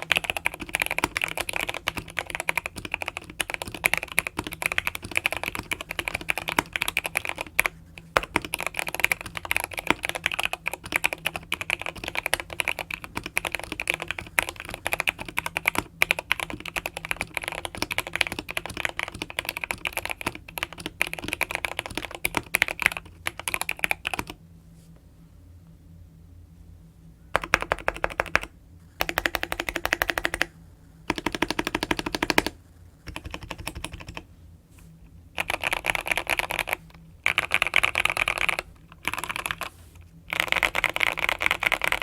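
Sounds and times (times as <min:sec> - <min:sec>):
mechanical keyboard typing: 0:00.0 - 0:24.4, 0:27.4 - 0:30.5, 0:31.1 - 0:34.2, 0:35.4 - 0:39.7, 0:40.3 - 0:42.0.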